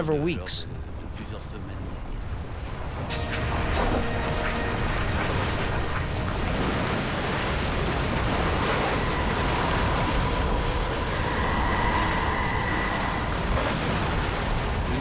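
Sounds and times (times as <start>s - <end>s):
lava lake churning: 0.6s - 15.0s.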